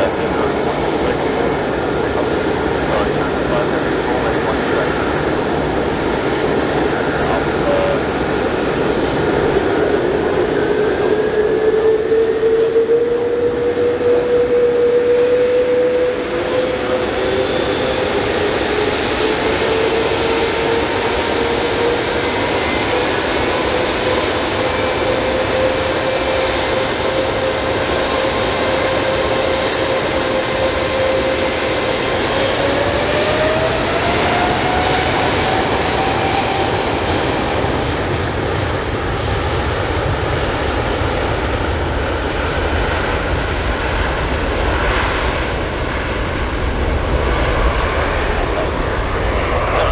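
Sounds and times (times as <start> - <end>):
jet engine spooling up: 0.0 - 49.9
jet engines running: 0.0 - 49.9.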